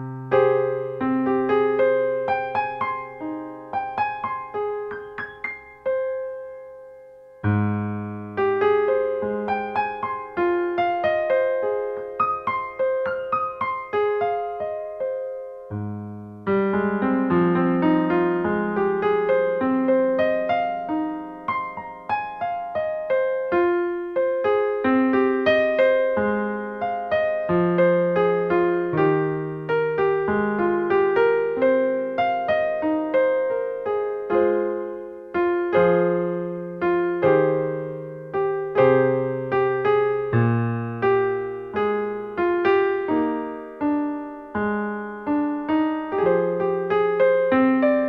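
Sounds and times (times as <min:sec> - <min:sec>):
solo piano music: 0:00.0 - 0:48.0.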